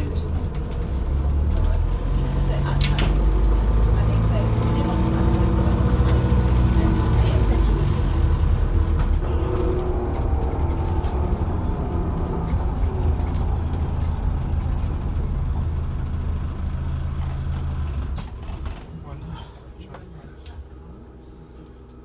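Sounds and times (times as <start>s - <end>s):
bus drivetrain drone: 0.0s - 22.0s
road noise: 0.0s - 22.0s.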